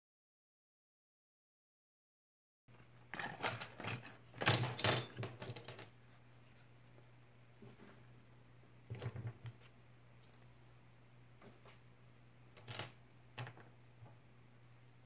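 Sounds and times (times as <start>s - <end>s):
faint low hum: 2.7s - 15.0s.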